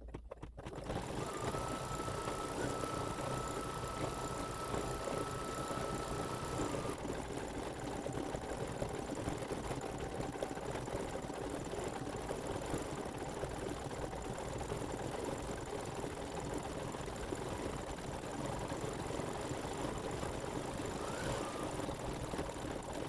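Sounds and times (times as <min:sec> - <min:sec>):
embroidery machine stitching: 0:00.1 - 0:23.0.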